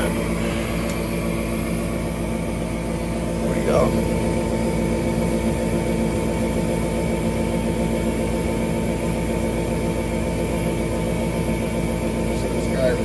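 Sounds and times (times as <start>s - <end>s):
furnace motor hum: 0.0s - 13.0s.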